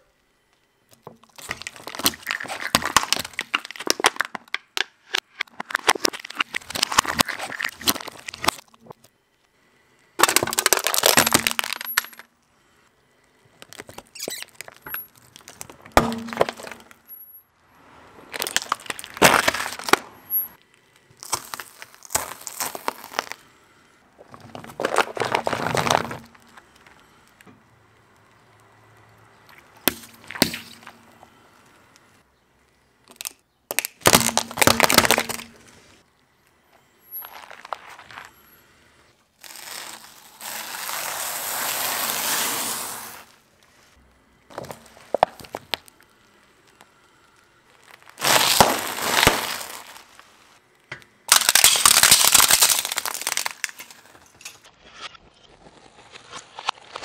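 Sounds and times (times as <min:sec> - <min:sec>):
plastic toys crushed by tyre: 0:01.0 - 0:09.1, 0:10.2 - 0:12.3, 0:13.5 - 0:17.1, 0:18.3 - 0:23.5, 0:24.1 - 0:27.4, 0:29.4 - 0:31.6, 0:33.0 - 0:36.0, 0:37.1 - 0:38.4, 0:39.4 - 0:43.7, 0:44.5 - 0:57.0.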